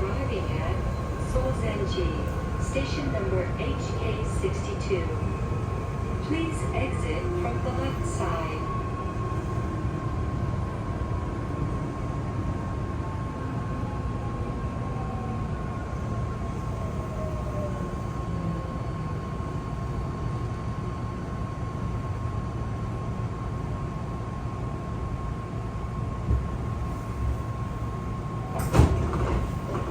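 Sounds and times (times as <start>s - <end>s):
electric train rumbling: 0.0s - 29.9s.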